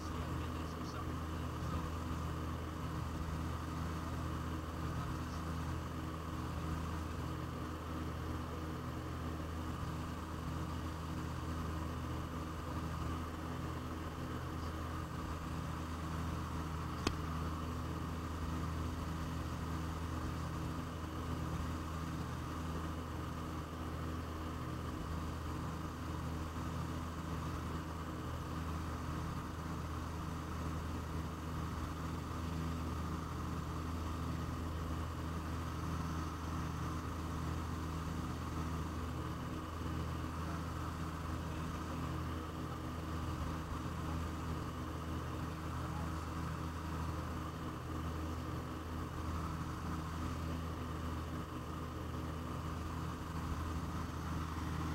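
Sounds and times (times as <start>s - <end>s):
piston aircraft engines droning: 0.0s - 54.9s.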